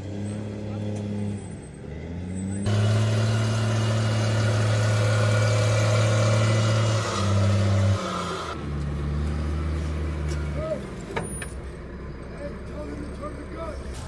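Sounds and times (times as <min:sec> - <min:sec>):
armoured vehicle diesel engine: 0:00.0 - 0:14.0.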